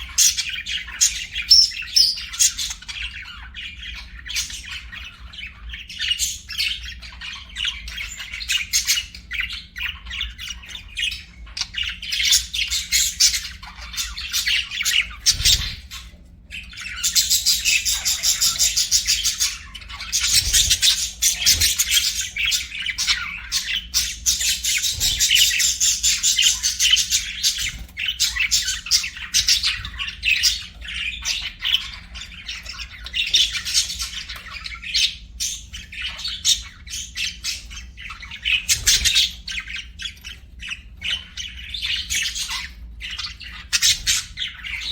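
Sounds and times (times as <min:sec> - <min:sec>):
budgerigars chirping and warbling: 0:00.0 - 0:44.9.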